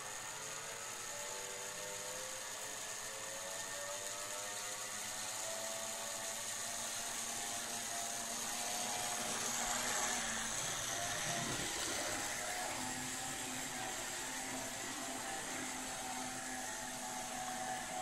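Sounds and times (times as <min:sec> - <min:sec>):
model train motor whirring: 0:00.0 - 0:18.0.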